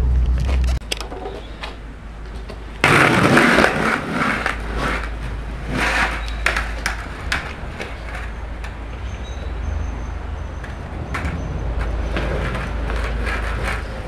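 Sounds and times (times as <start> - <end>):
skateboard rolling and scraping: 0.0 - 14.0
skateboard clacks and knocks: 0.5 - 9.5, 10.6 - 14.0.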